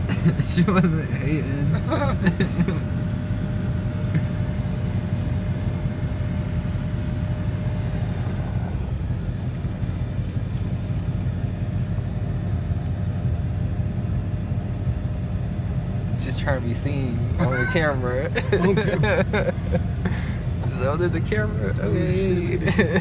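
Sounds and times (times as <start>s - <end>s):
car engines rumbling: 0.0s - 23.0s
faint steady hum: 0.0s - 23.0s.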